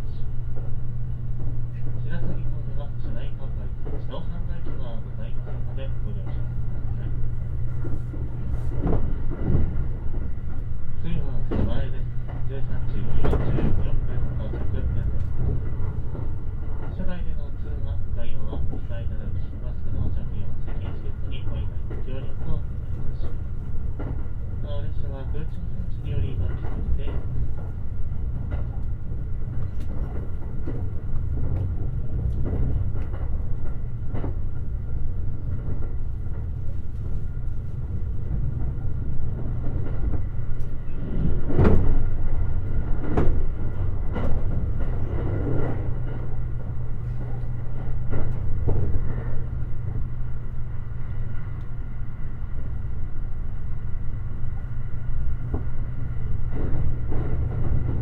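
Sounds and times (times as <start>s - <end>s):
train wheels rumbling on rail: 0.0s - 58.0s
clacks over rail joints: 3.0s - 7.1s, 7.7s - 50.1s, 56.4s - 58.0s.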